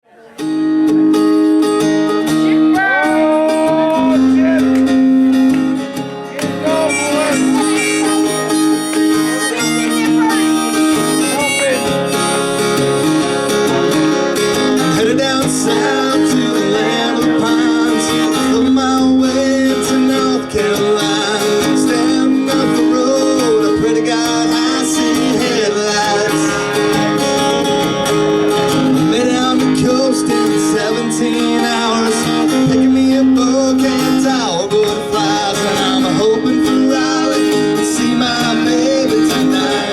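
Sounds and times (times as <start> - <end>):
strummed acoustic guitar: 0.0 - 39.9
harmonica melody: 0.4 - 39.9.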